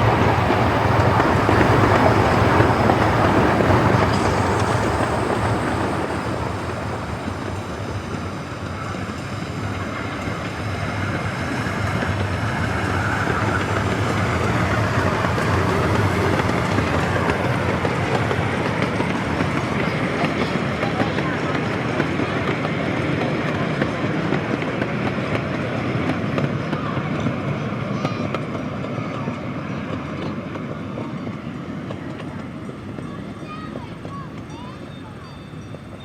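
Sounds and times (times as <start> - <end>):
steam train rolling rumble: 0.0 - 36.0.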